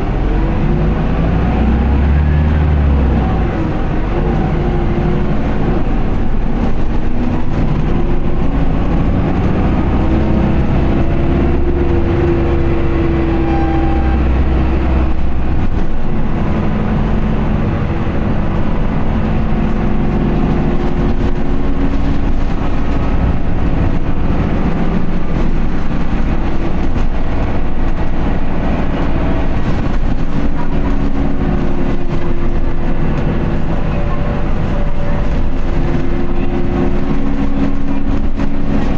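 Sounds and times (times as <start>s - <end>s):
bus diesel engine accelerating: 0.0s - 38.9s.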